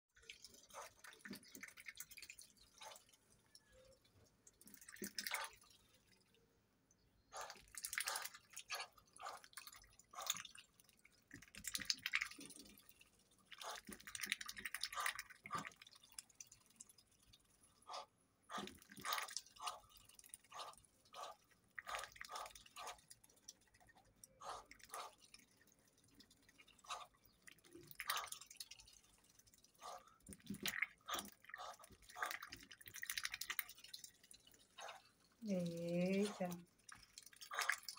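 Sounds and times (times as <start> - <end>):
duck dabbling in water: 0.2 - 6.5, 7.2 - 37.9.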